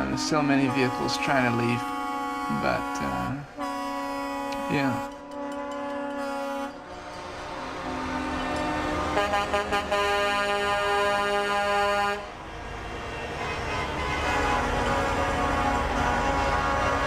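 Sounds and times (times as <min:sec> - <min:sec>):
traffic and engine rumble: 0:00.0 - 0:17.0
truck air horns and car horns: 0:00.0 - 0:17.0.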